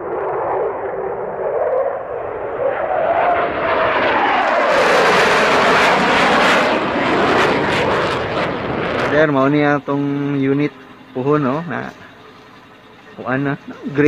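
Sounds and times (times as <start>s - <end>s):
steady rushing roar: 0.0s - 14.0s.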